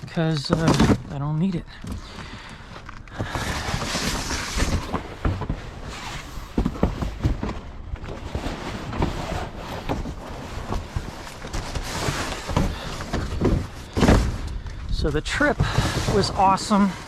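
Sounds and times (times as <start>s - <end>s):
knocks and clatter of junk: 0.0s - 17.0s.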